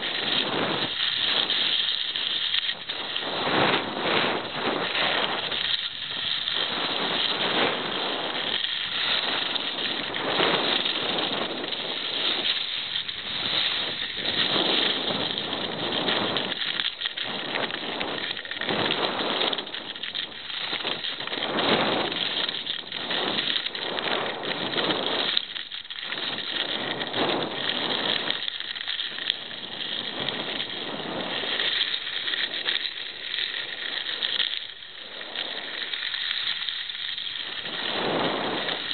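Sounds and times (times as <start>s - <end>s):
skis scraping over snow: 0.0s - 38.9s.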